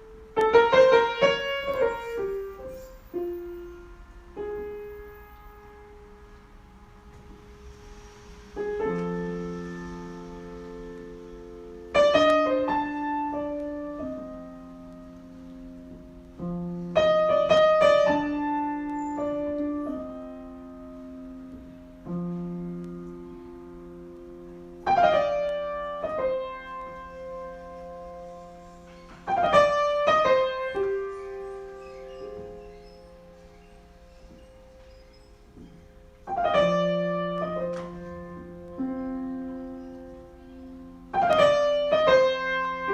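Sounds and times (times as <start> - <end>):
solo piano chords: 0.0 - 42.9.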